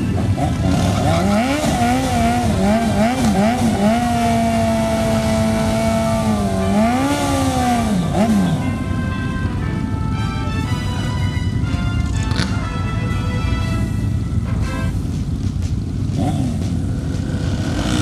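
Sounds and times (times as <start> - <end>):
motorcycle engine revving: 0.0 - 9.6, 11.6 - 18.0.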